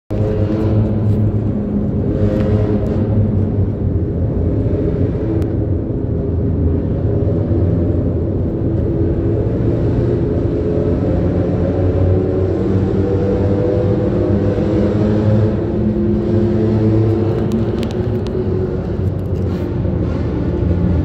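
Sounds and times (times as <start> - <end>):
vehicles driving through tunnel: 0.1 - 21.0.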